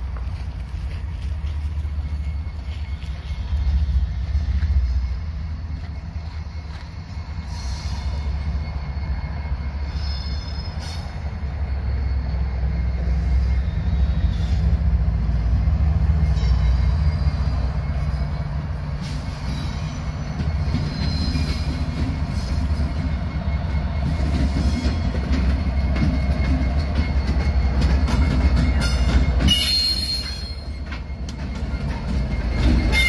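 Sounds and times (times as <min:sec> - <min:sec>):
freight train rumbling: 0:00.0 - 0:33.0
train wheels squealing: 0:00.0 - 0:33.0.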